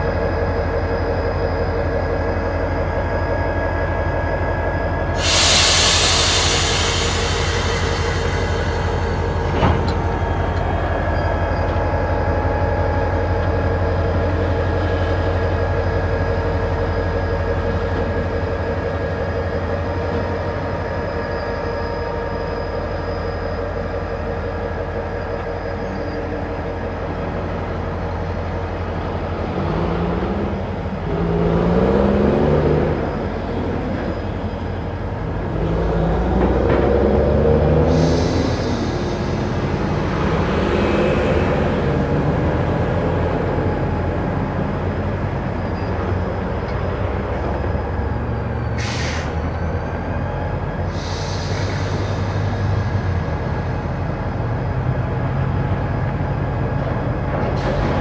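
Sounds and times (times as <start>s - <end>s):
locomotive engine drone: 0.0s - 58.0s
wheels rumbling on rail: 0.0s - 58.0s.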